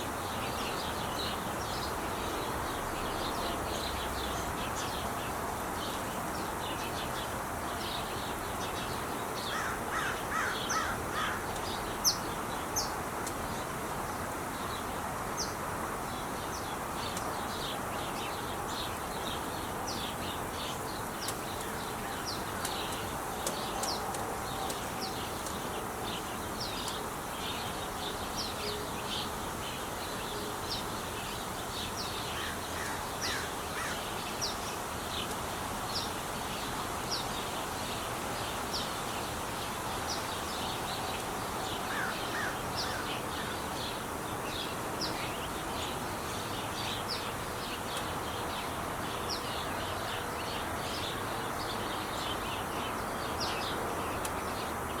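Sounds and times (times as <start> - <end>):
freeway traffic noise: 0.0 - 36.2, 40.0 - 55.0
small birds chirping: 0.0 - 55.0.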